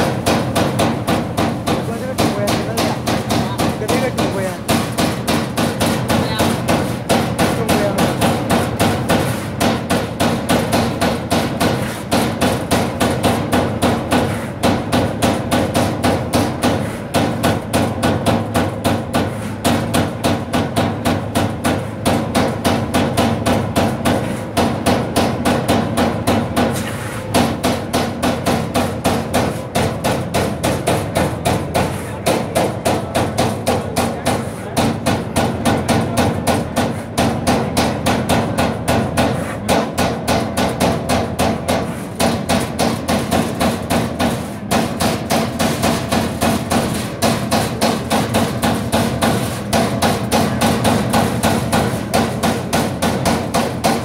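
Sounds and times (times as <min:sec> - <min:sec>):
punch press punching sheet metal: 0:00.0 - 0:54.0.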